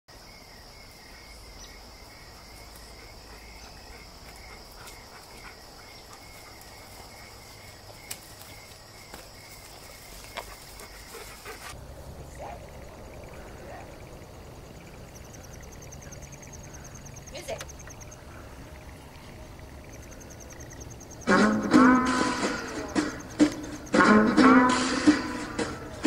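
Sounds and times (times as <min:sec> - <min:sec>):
insect low chirp pulsing: 0:00.1 - 0:26.0
insect high trill: 0:00.2 - 0:25.3.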